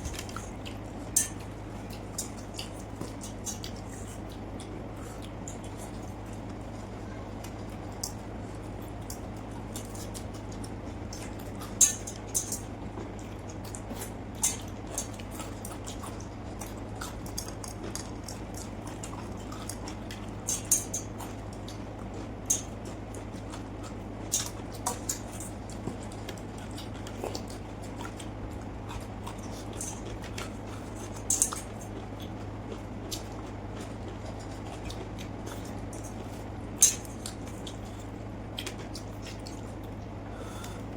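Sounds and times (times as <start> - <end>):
steady low hum: 0.0 - 40.9
wet chewing and lip smacks: 0.1 - 6.6, 8.9 - 40.7.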